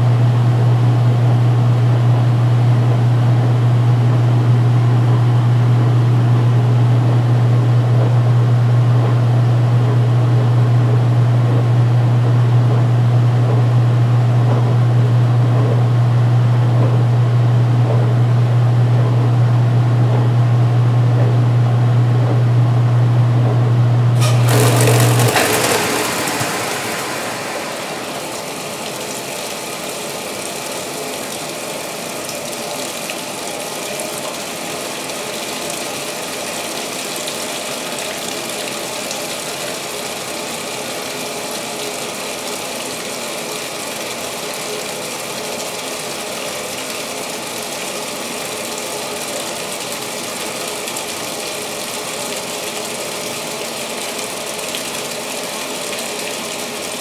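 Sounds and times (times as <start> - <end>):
water rushing into washer tub: 0.0 - 57.0.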